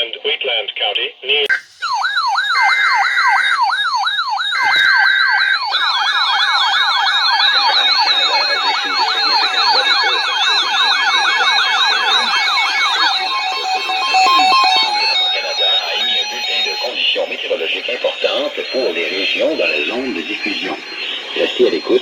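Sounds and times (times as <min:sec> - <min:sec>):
steady beeps: 0:01.5 - 0:22.0.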